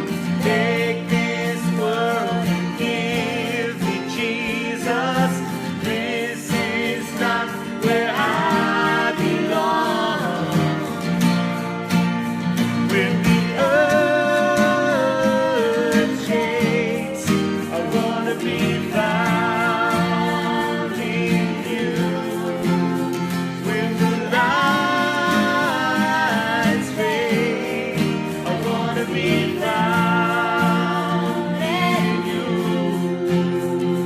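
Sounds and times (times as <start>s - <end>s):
guitar and band accompaniment: 0.0s - 34.0s
person singing with vibrato: 0.0s - 34.0s.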